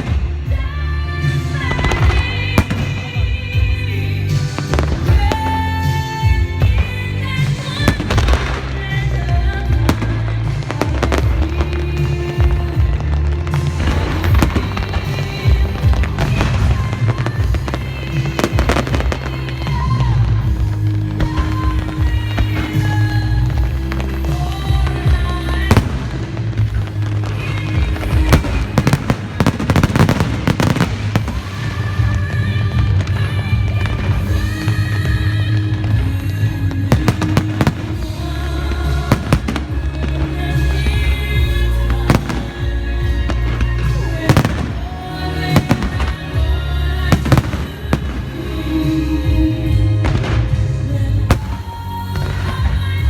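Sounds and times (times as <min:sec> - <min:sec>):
background music: 0:00.0 - 0:53.0
fireworks bangs and crackles: 0:00.0 - 0:53.0.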